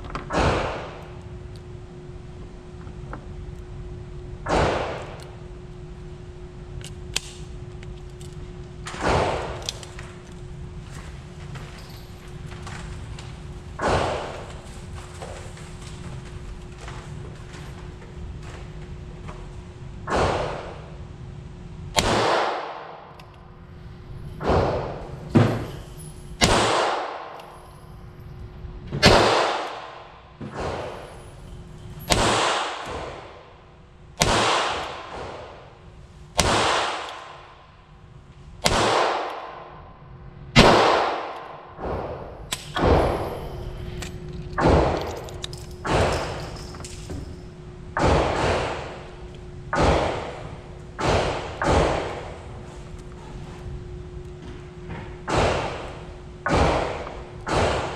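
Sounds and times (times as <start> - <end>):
revolver shots echoing indoors: 0.0 - 15.4, 19.6 - 57.9
faint steady hum: 0.0 - 57.9.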